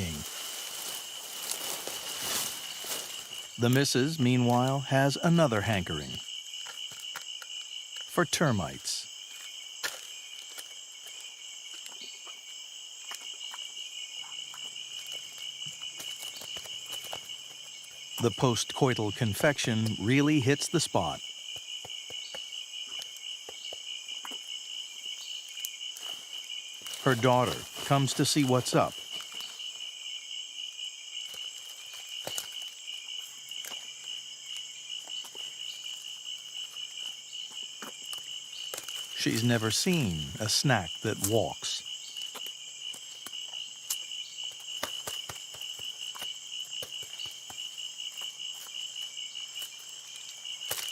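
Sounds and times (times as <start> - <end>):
crickets trilling: 0.0 - 50.9
insects chorus: 0.0 - 50.9.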